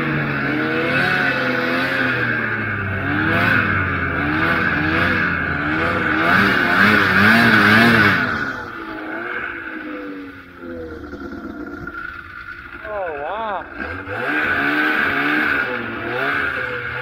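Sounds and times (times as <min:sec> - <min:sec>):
snowmobile engine revving: 0:00.0 - 0:17.0
steady rushing noise: 0:01.5 - 0:17.0.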